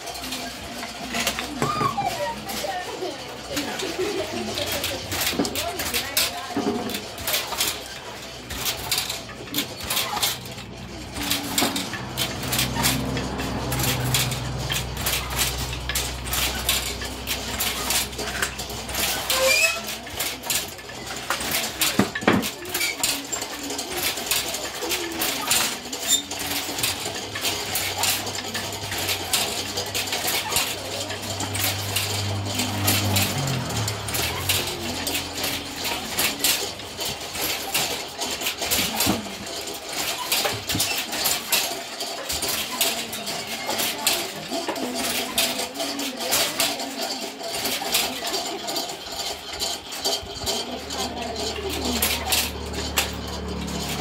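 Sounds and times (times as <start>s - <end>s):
wooden looms clacking: 0.0s - 54.0s.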